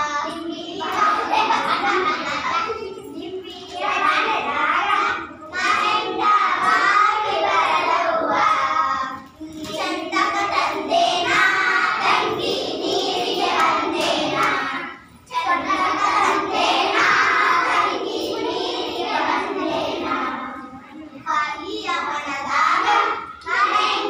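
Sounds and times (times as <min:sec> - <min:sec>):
children singing: 0:00.0 - 0:24.0.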